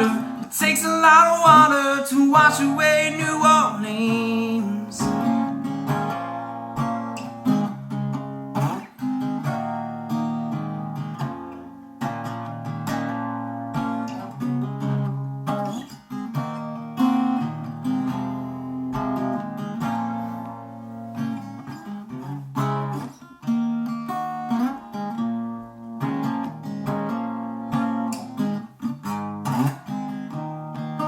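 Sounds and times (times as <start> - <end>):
guitar strumming chords: 0.0 - 31.0.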